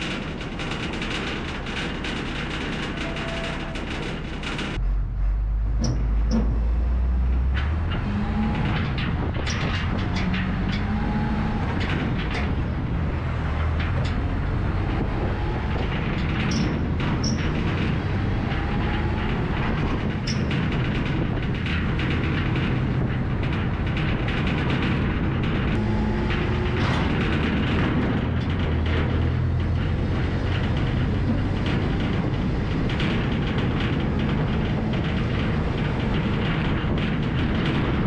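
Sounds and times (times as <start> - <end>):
trailer load clanking: 0.0 - 38.0
truck engine and road rumble: 0.0 - 38.0.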